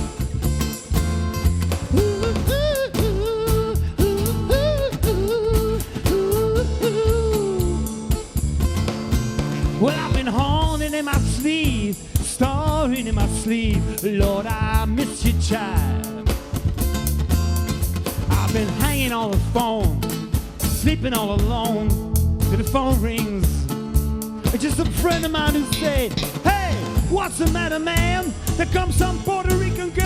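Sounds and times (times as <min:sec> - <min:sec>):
live blues rock band: 0:00.0 - 0:30.0.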